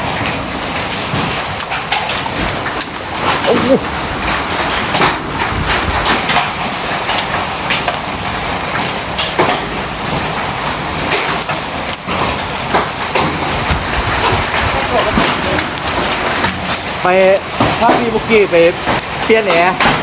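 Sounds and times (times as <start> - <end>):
hailstones knocking: 0.0 - 20.0
heavy rain hiss: 0.0 - 20.0.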